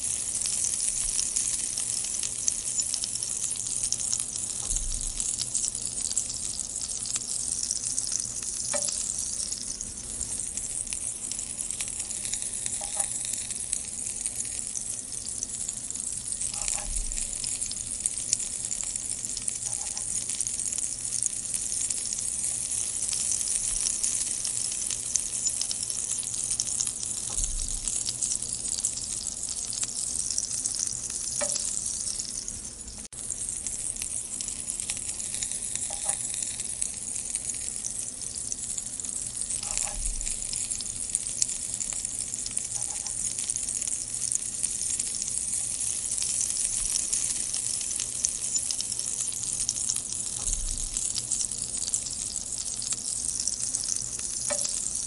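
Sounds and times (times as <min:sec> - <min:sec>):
chillies sizzling in a pan: 0:00.0 - 0:55.0.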